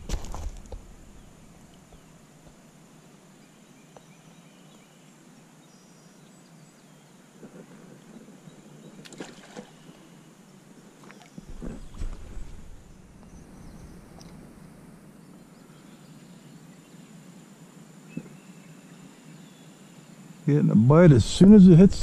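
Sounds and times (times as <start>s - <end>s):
faint outdoor ambience: 0.0s - 22.0s.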